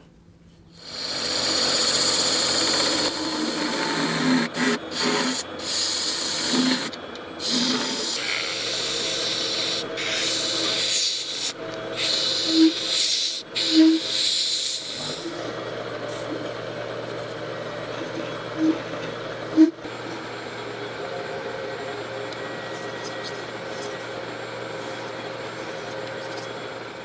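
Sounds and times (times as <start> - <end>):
lathe tool scraping hiss: 0.8 - 20.4, 22.5 - 27.0
lathe running hum: 0.8 - 27.0.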